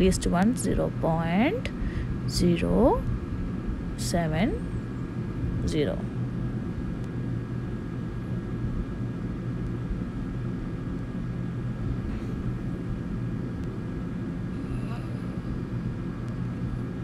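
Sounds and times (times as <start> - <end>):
faint high hum: 0.0 - 17.0
low background rumble: 0.0 - 17.0.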